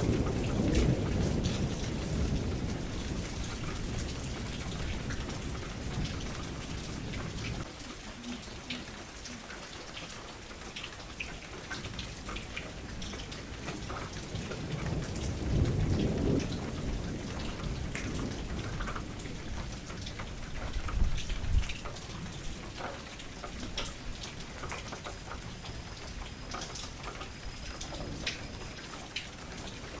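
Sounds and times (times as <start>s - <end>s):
low rumble of thunder: 0.0s - 30.0s
rain falling: 0.0s - 30.0s.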